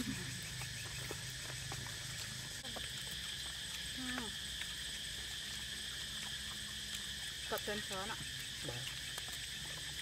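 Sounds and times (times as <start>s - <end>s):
night insects chirring: 0.0s - 10.0s.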